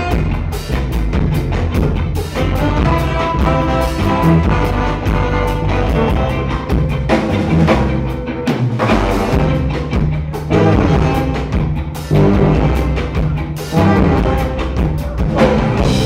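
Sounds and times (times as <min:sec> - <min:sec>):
bass line: 0:00.0 - 0:16.0
drum kit: 0:00.0 - 0:16.0
live ska band playing: 0:00.0 - 0:16.0.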